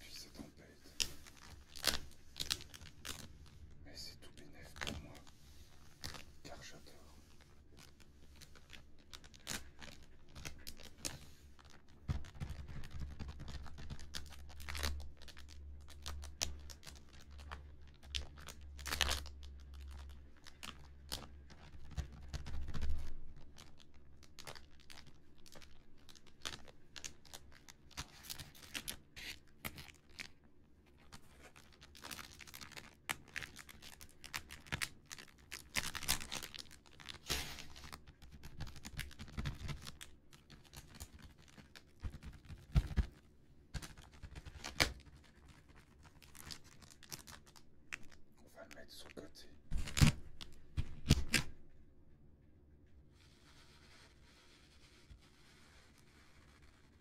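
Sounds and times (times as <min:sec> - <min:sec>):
fingertips tapping crinkly plastic: 0:00.4 - 0:51.6.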